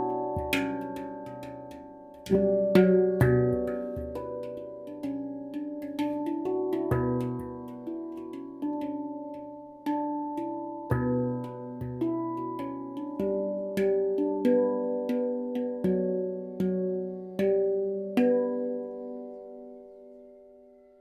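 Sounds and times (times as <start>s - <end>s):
handpan melody: 0.0s - 20.7s.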